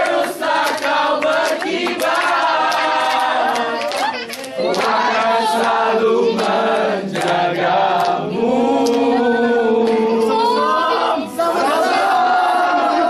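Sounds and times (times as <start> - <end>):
group singing: 0.0 - 13.0.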